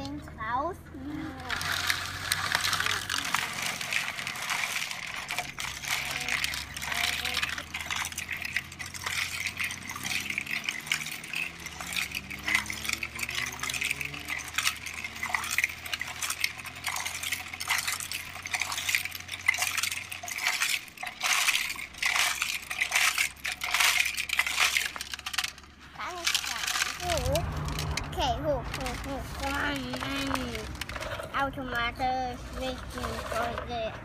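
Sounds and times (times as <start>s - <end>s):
gravelly mix rattling and clinking: 0.0s - 34.0s.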